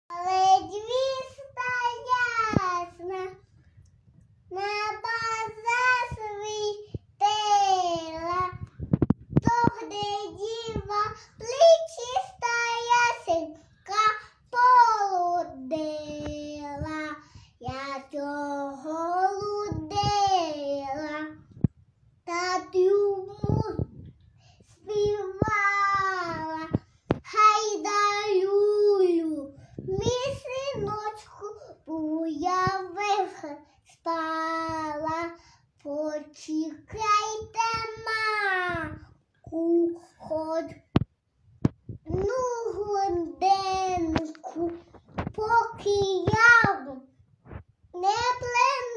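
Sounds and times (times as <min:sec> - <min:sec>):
girl singing unaccompanied: 0:00.1 - 0:03.6, 0:04.5 - 0:24.0, 0:24.8 - 0:41.1, 0:41.9 - 0:47.2, 0:47.9 - 0:48.9.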